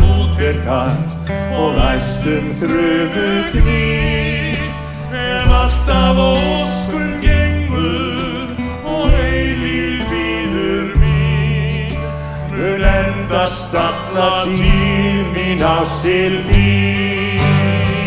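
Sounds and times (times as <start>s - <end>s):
acoustic guitar: 0.0s - 18.0s
drums: 0.0s - 18.0s
low bass notes: 0.0s - 18.0s
person singing: 0.0s - 18.0s.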